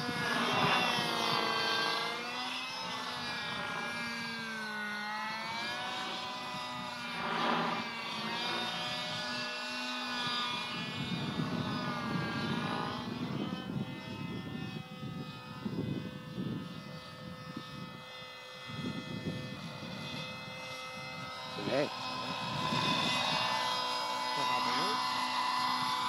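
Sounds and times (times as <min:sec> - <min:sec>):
model helicopter engine running: 0:00.0 - 0:26.0.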